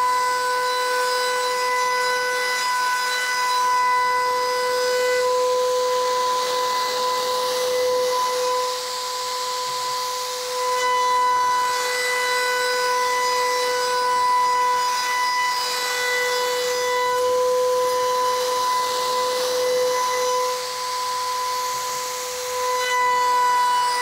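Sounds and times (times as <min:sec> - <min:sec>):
hiss of wood cutting: 0:00.0 - 0:24.0
router high-pitched whine: 0:00.0 - 0:24.0.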